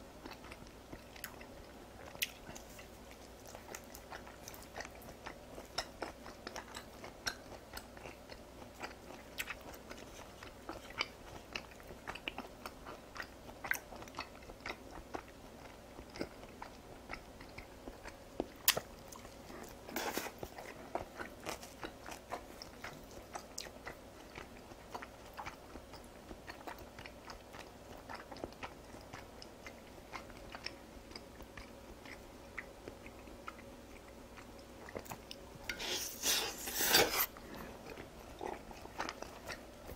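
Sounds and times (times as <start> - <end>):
wet chewing: 0.2 - 39.9.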